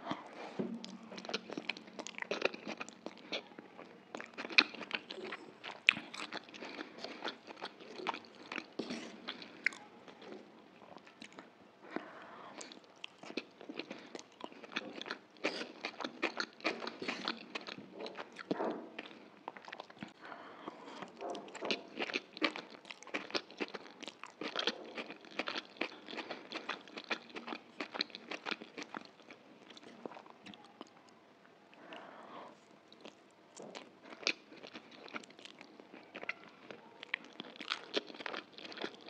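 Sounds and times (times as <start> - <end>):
person chewing and slurping noodles: 0.0 - 30.5, 32.6 - 39.0.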